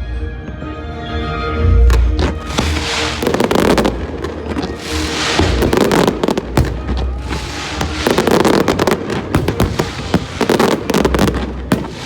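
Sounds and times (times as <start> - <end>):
fireworks cracks and pops: 1.9 - 12.0.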